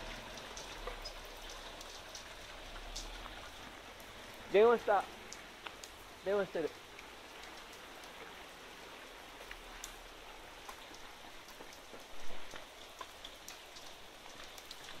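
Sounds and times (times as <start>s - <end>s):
heavy rain falling: 0.0s - 15.0s
raindrops ticking close by: 0.0s - 15.0s.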